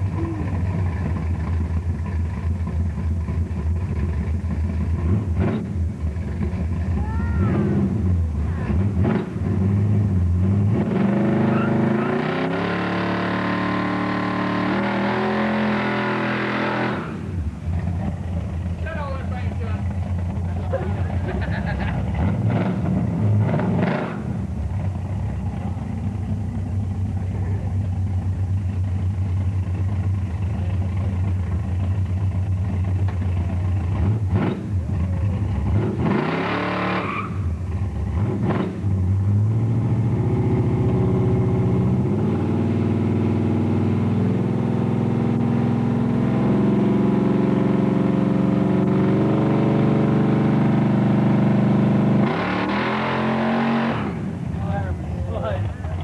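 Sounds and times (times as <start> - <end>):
car engine rumbling and revving: 0.0 - 56.0.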